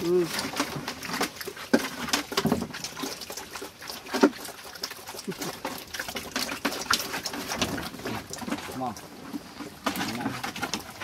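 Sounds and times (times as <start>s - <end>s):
piglets chomping and smacking: 0.0s - 11.0s.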